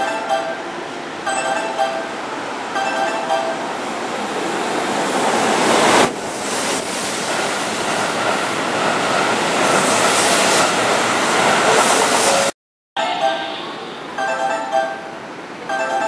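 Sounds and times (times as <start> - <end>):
train passing platform: 0.0 - 16.0.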